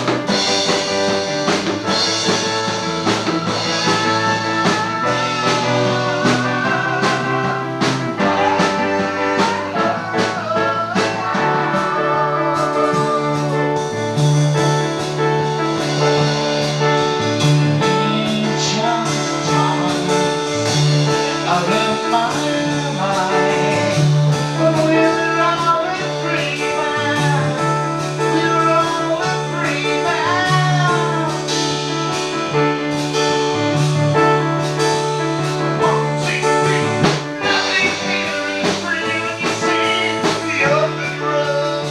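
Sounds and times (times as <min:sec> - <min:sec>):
bass line: 0:00.0 - 0:41.9
blues-rock lead guitar line: 0:00.0 - 0:41.9
drums: 0:00.0 - 0:41.9.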